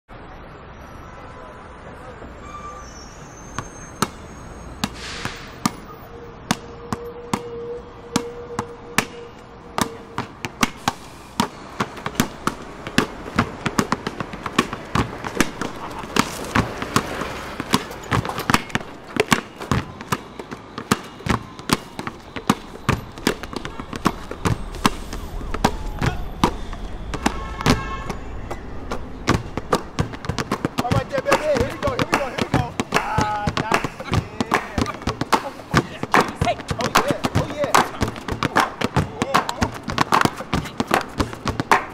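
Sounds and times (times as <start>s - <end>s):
street traffic hum: 0.1s - 41.9s
basketballs bouncing on asphalt: 3.6s - 41.9s.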